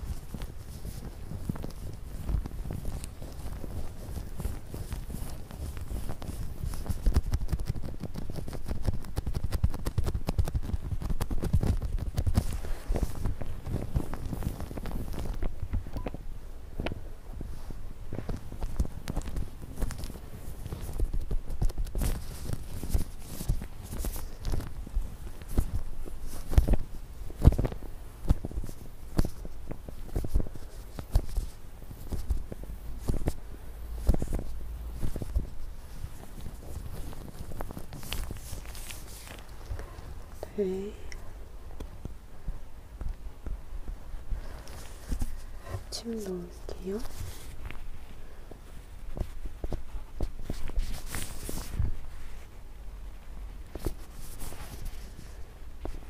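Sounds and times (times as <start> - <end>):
gloved fingers tapping and rubbing: 0.0 - 16.2, 16.8 - 42.2, 43.0 - 52.2.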